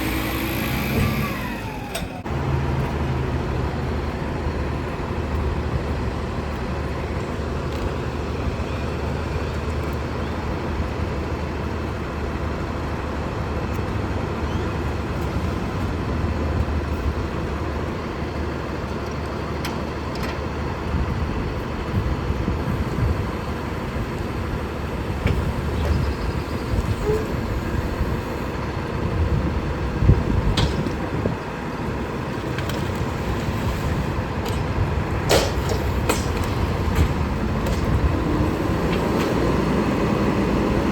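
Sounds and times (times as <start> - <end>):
garbage truck diesel engine running: 0.0 - 40.9.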